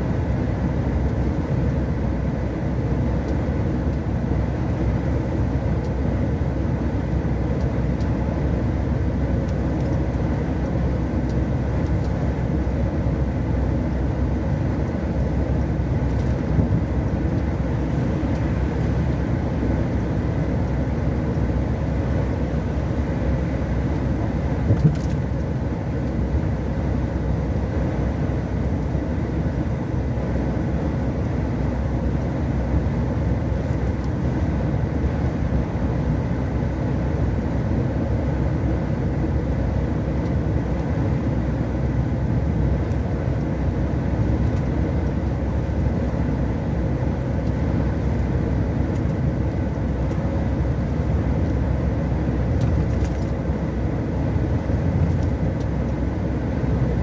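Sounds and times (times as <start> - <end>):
engine and tyre noise inside vehicle: 0.0 - 57.0.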